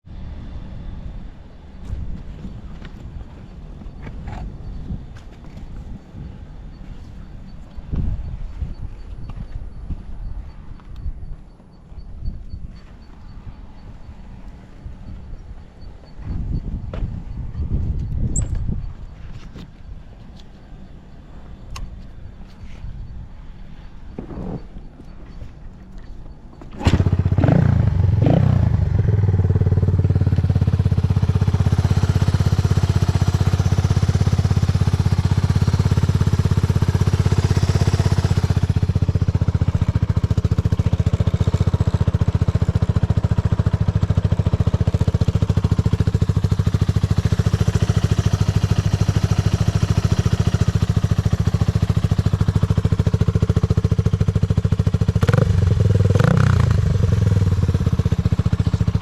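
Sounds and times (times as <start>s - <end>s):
motorcycle engine starting and idling: 0.1s - 59.0s.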